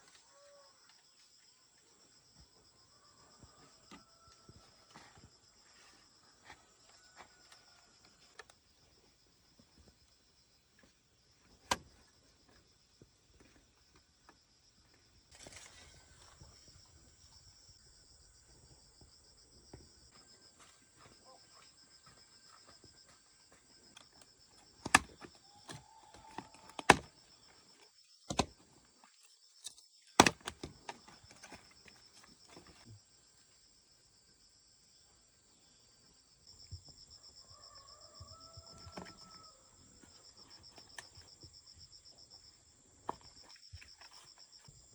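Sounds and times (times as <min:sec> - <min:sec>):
insects chirping: 0:00.0 - 0:44.9.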